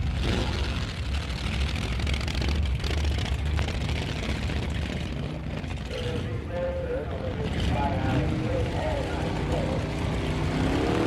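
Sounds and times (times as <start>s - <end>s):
deep rumbling car engine: 0.0s - 11.0s.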